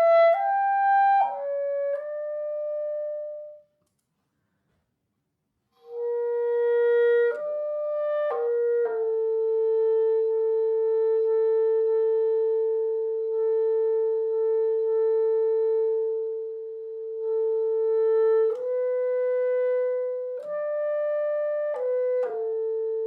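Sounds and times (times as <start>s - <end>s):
wind instrument playing: 0.0s - 3.6s, 5.8s - 23.0s.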